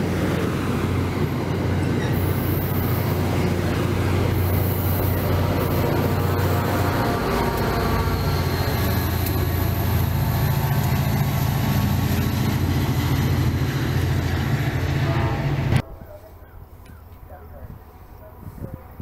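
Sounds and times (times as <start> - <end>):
diesel locomotive engine drone: 0.0 - 19.0
rail and wheel noise: 0.0 - 19.0.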